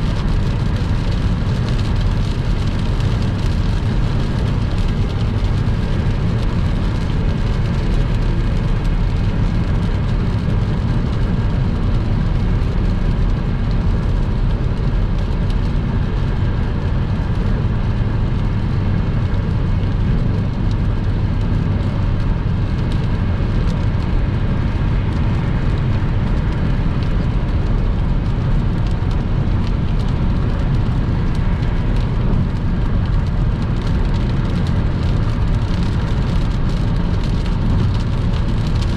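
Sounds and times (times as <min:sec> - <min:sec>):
rain on a car: 0:00.0 - 0:38.9
road and engine noise: 0:00.0 - 0:38.9.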